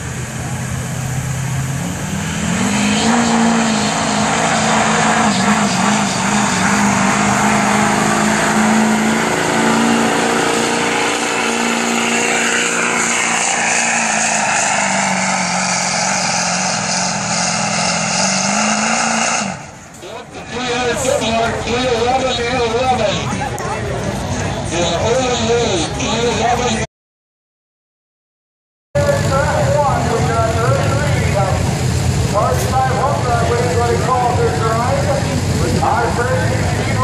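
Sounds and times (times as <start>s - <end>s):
diesel truck engine at full load: 0.0s - 26.9s, 29.0s - 37.0s.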